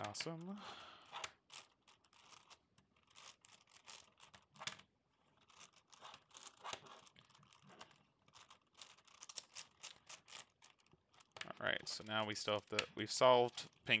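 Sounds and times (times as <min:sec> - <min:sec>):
plastic puzzle clicking and scraping: 0:00.0 - 0:14.0.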